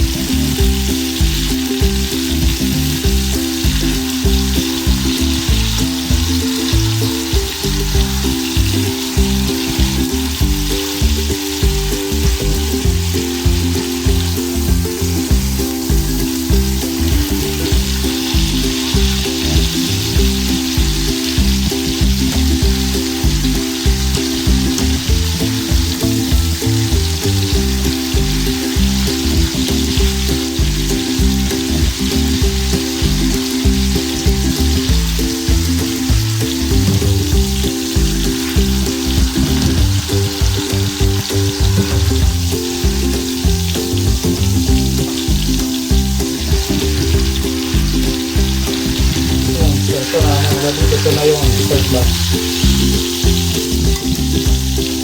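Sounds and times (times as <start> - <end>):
background music with beat and bass: 0.0 - 55.0
steak sizzling in a frying pan: 0.0 - 55.0.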